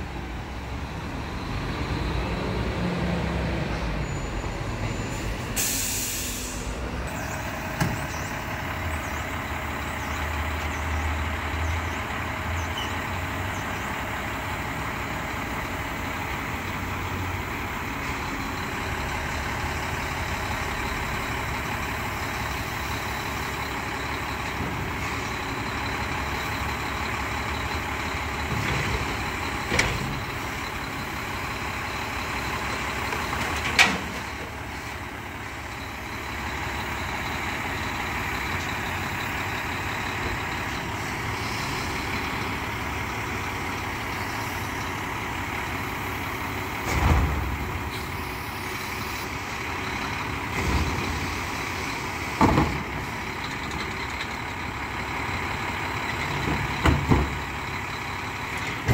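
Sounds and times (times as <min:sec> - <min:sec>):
garbage truck engine running: 0:00.0 - 0:58.9.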